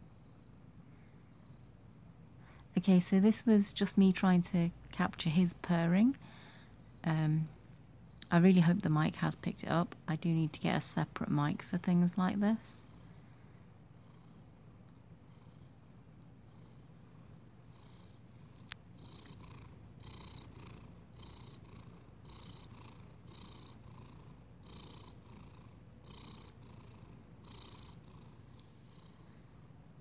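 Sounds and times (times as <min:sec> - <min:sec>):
cat purring: 0:00.0 - 0:02.1, 0:02.8 - 0:30.0.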